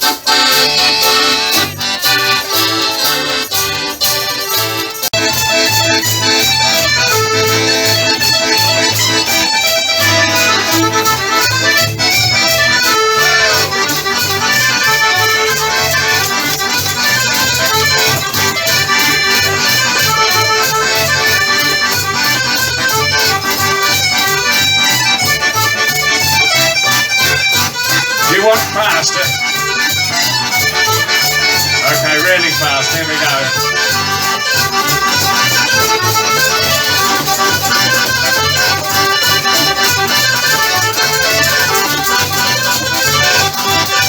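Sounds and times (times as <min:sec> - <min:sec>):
live band instrumental music: 0:00.0 - 0:44.0.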